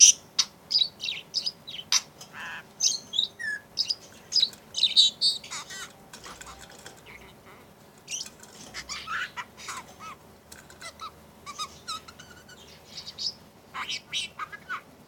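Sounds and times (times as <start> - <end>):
budgerigar chirping and warbling: 0.0 - 14.9.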